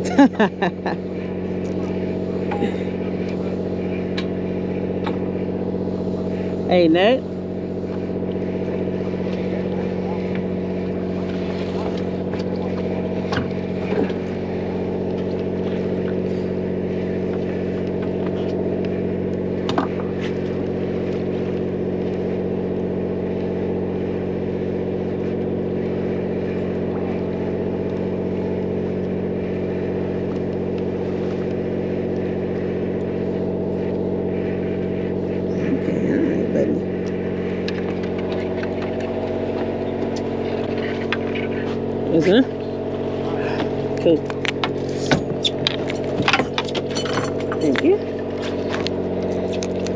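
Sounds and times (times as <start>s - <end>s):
boat engine humming: 0.0s - 49.9s.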